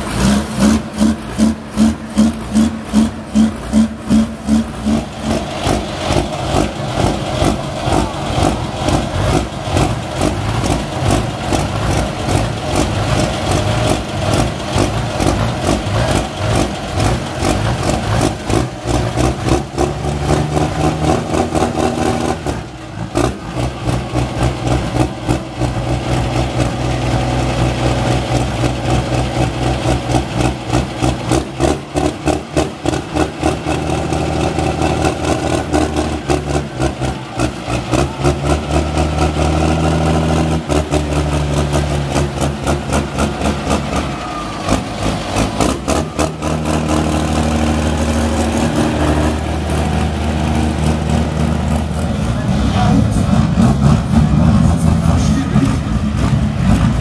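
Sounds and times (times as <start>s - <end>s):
tractor diesel engine running hard: 0.0s - 57.0s.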